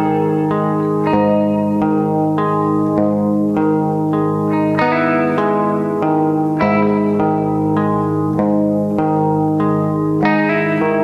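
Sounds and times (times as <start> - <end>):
acoustic guitar picking notes: 0.0 - 11.0.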